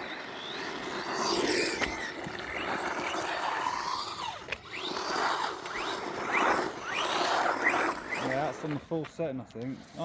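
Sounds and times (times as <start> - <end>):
rc car electric motor whining: 0.0 - 8.9.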